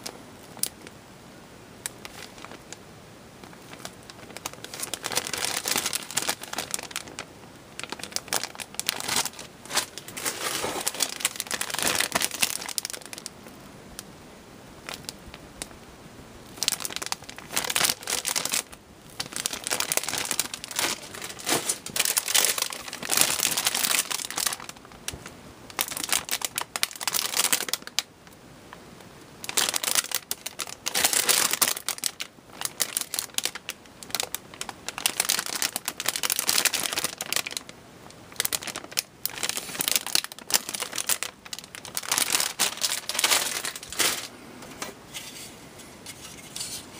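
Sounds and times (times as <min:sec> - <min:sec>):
plastic bags crinkling: 0:01.9 - 0:02.8, 0:03.4 - 0:13.3, 0:14.8 - 0:15.7, 0:16.5 - 0:28.1, 0:29.4 - 0:44.4.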